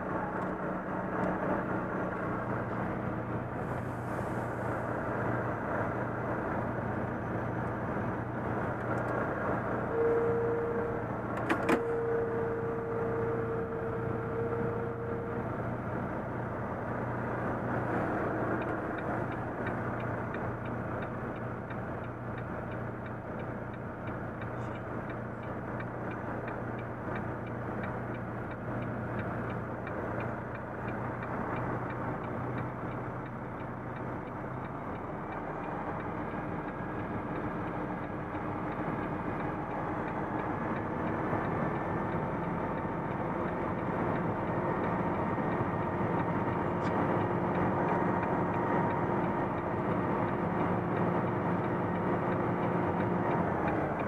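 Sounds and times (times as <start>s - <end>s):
road noise: 0.0s - 54.0s
truck engine humming: 0.0s - 54.0s.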